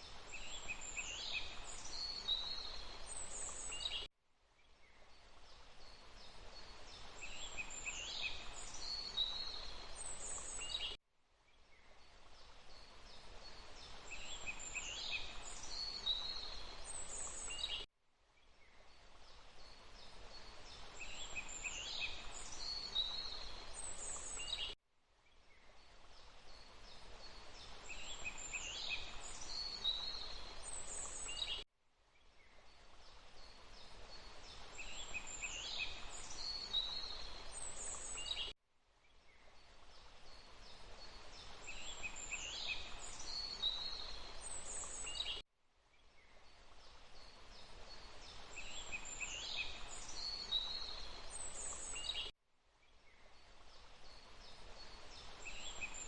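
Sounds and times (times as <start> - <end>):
small birds chirping: 0.0 - 31.6, 32.2 - 38.5, 39.1 - 45.4, 46.0 - 56.0.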